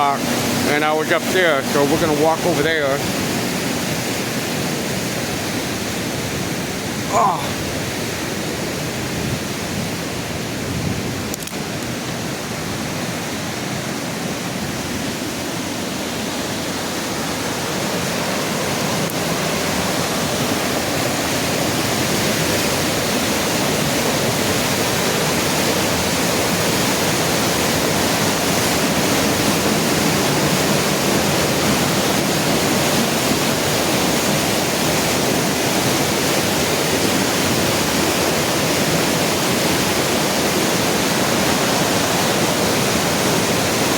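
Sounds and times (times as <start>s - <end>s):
rushing floodwater: 0.0s - 43.9s.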